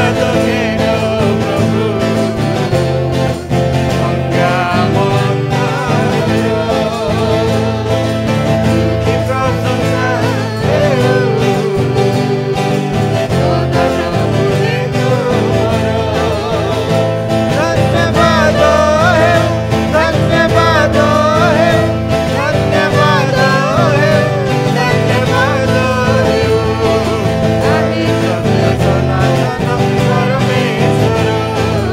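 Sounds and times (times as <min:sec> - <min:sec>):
man and woman singing: 0:00.0 - 0:31.9
twelve-string acoustic guitar: 0:00.0 - 0:31.9.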